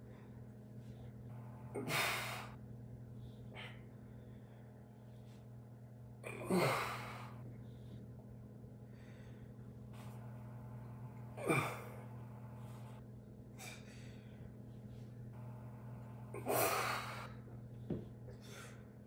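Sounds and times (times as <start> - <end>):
quiet breaths: 0.0 - 19.0
steady low hum: 0.0 - 19.0.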